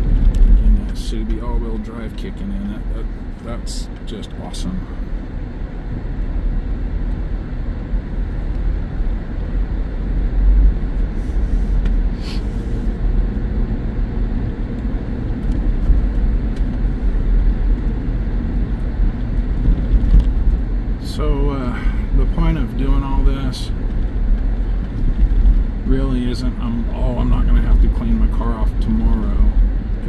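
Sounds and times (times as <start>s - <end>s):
car rumbling on snowy road: 0.0s - 30.0s.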